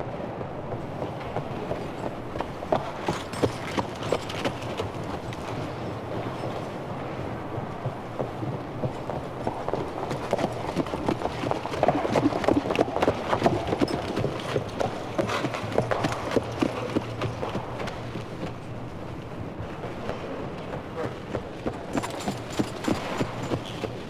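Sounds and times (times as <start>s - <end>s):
horse hooves clip-clopping: 0.0s - 24.0s.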